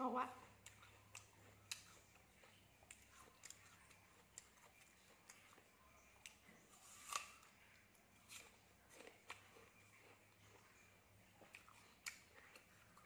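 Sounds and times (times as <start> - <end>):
apple crunching: 0.0 - 13.0.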